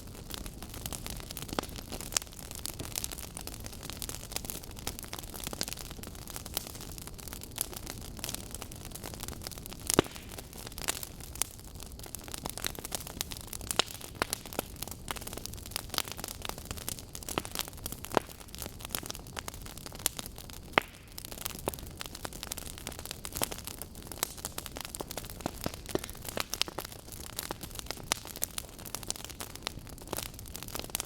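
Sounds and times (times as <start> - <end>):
wood logs crackling and popping: 0.0 - 31.0.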